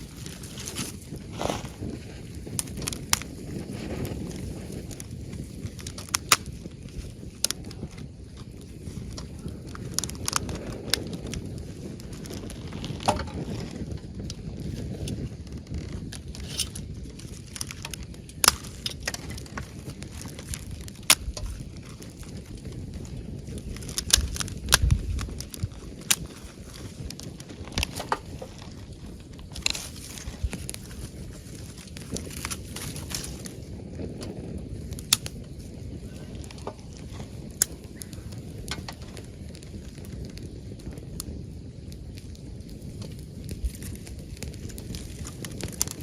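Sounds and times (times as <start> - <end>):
campfire crackling: 0.0 - 46.0
sharp pops from fire: 0.0 - 46.0.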